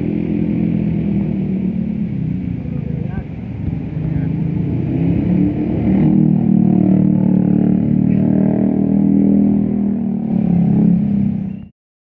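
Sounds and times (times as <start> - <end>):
vehicle engine running: 0.0 - 11.7.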